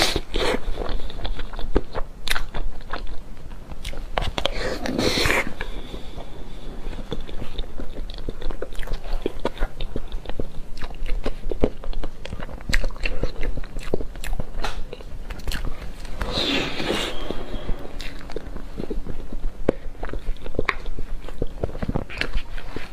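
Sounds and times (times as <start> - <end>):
chewing and crunching: 0.0 - 16.4, 17.4 - 22.9.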